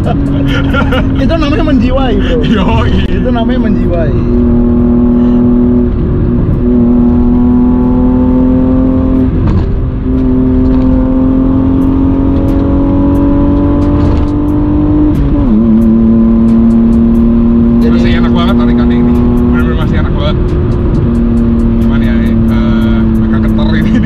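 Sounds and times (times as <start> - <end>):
car engine under load: 0.0 - 24.0.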